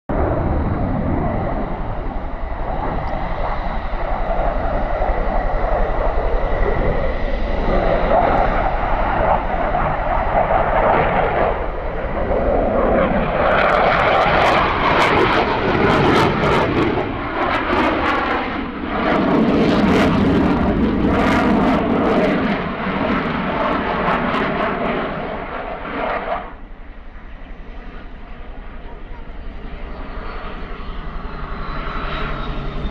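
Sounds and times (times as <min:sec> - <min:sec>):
jet engine crackles: 0:00.1 - 0:32.9
jet engine roar: 0:00.1 - 0:32.9.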